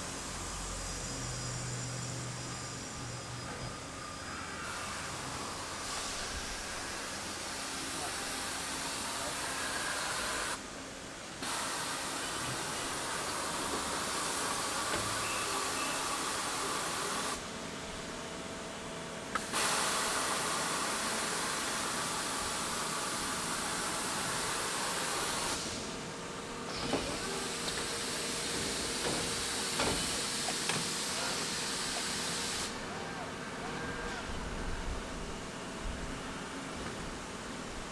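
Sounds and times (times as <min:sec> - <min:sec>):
machine steady hiss: 0:00.0 - 0:18.2, 0:19.2 - 0:33.2.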